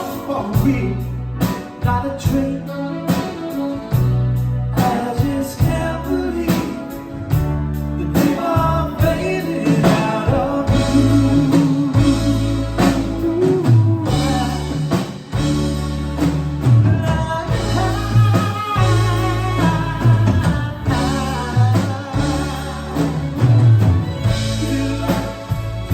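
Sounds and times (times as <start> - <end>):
lead vocal singing: 0.0 - 25.9
live rock band music: 0.0 - 25.9.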